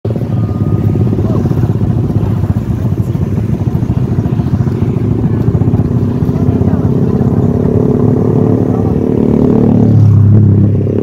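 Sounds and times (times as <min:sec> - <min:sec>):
small engine running: 0:00.1 - 0:10.0.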